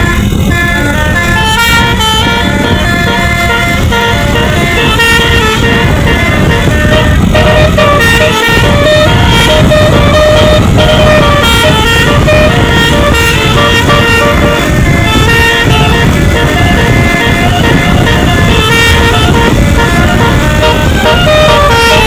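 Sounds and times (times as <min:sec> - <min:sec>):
bus horn playing a melody: 0:00.0 - 0:22.0
loud low rumble: 0:00.0 - 0:22.0.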